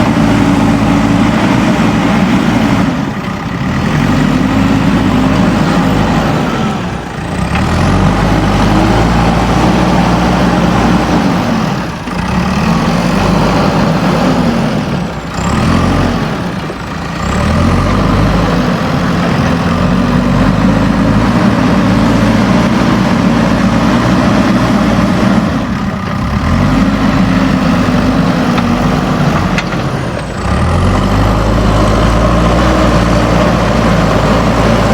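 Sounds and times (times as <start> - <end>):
diesel engine revving under load: 0.0 - 34.9.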